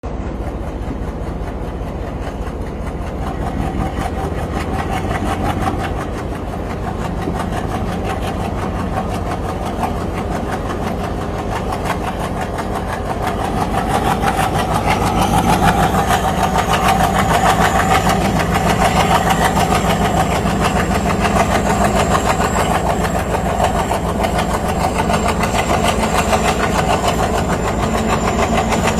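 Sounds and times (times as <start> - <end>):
locomotive engine throbbing: 0.0 - 28.9.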